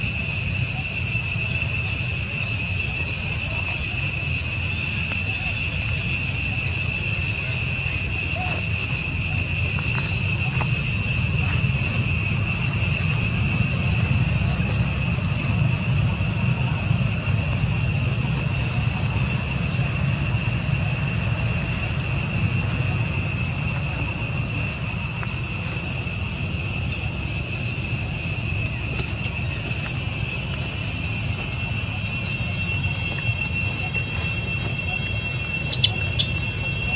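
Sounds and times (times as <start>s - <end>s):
constant low rumble: 0.0s - 36.9s
insect chorus whining: 0.0s - 36.9s.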